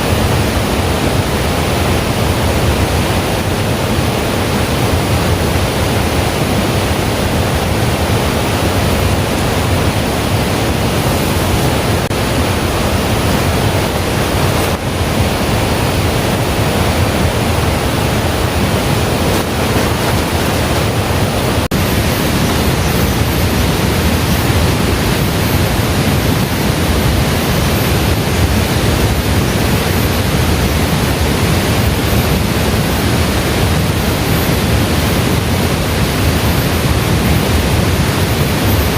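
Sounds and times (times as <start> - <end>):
heavy rain and streaming water: 0.0 - 38.9.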